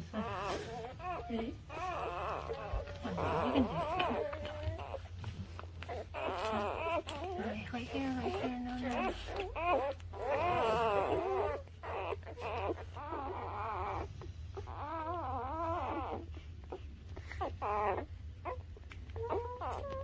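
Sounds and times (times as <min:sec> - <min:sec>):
low steady hum: 0:00.0 - 0:20.0
puppies whining and squealing: 0:00.0 - 0:20.0.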